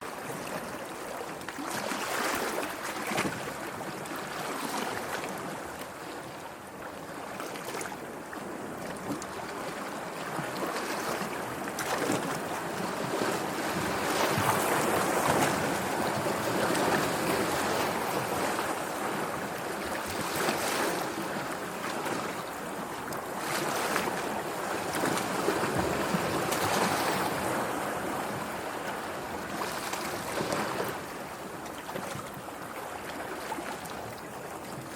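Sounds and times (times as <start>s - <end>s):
sea waves breaking: 0.1s - 6.4s, 7.1s - 34.9s.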